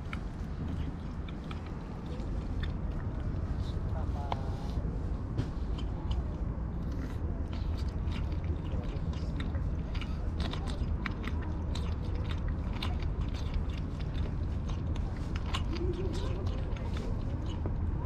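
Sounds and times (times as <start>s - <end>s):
kitten lapping water from bowl: 0.0s - 4.6s, 5.6s - 18.0s.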